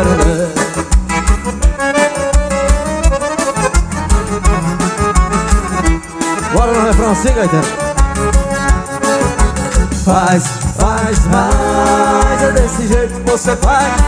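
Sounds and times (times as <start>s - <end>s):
accordion melody: 0.0s - 14.0s
bass drum beat: 0.0s - 14.0s.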